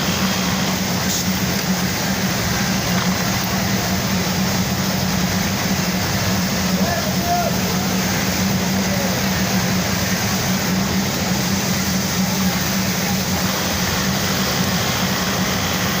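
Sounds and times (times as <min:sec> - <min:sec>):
industrial sewing machines running: 0:00.0 - 0:16.0.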